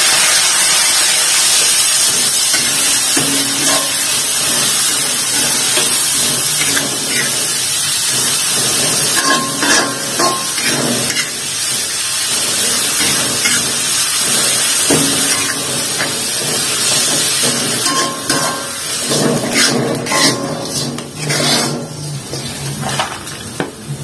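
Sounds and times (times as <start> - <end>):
anchovies sizzling in a wok: 0.0 - 24.0
metal spatula scraping a pan: 2.1 - 23.0.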